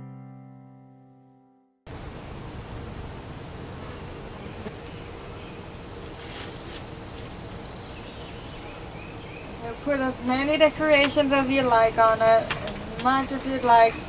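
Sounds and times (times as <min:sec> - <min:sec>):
buzzing hiss: 0:01.9 - 0:14.0.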